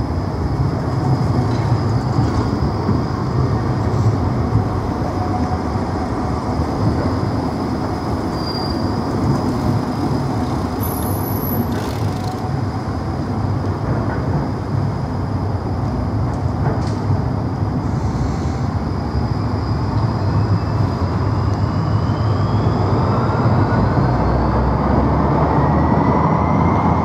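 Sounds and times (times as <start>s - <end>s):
tram wheels rumbling on rail: 0.0s - 27.0s.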